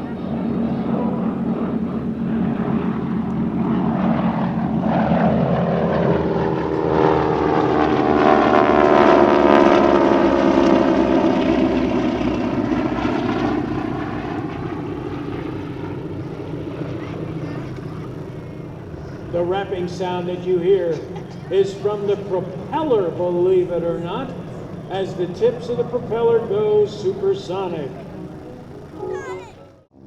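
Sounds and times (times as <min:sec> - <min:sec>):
propeller planes flying past: 0:00.0 - 0:30.0.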